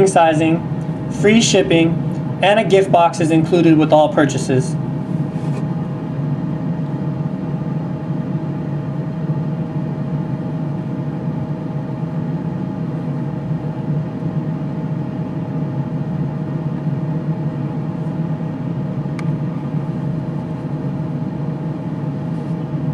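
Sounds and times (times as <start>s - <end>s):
low mechanical hum: 0.0s - 22.9s
thin steady whine: 0.0s - 22.9s.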